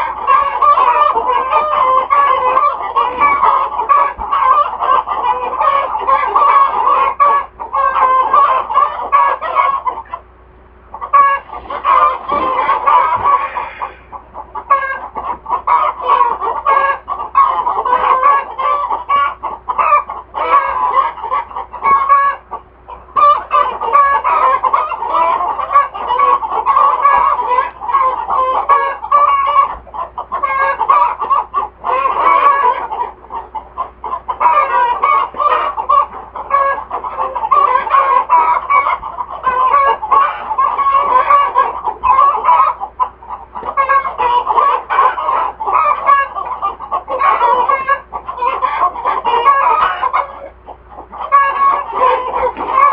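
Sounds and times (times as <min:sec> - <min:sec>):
hens cackling and clucking: 0:00.0 - 0:52.9.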